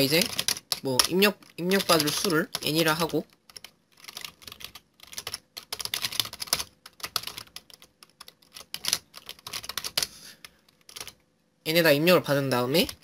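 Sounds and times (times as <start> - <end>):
typing on computer keyboard: 0.0 - 10.1, 10.7 - 11.2.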